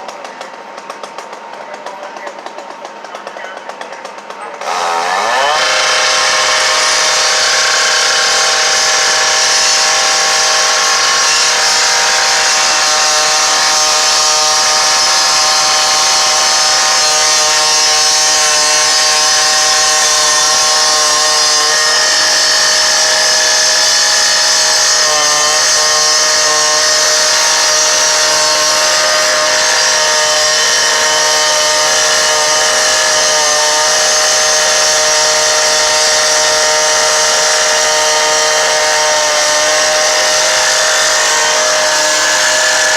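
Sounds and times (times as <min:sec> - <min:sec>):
power saw cutting metal: 0:00.0 - 0:42.9.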